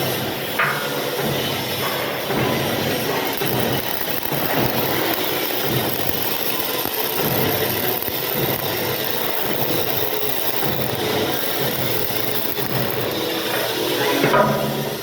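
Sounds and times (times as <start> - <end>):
welding arc crackling and hissing: 0.0 - 14.2.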